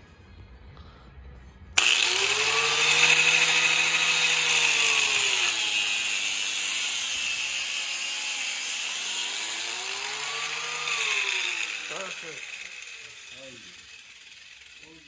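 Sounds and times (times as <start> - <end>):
electric cutting tool cutting: 1.8 - 15.0.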